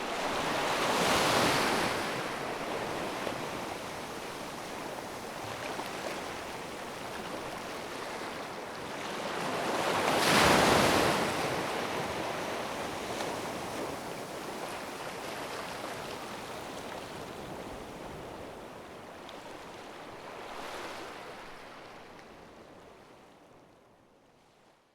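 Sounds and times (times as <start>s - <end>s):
ocean waves breaking on shore: 0.0s - 22.2s.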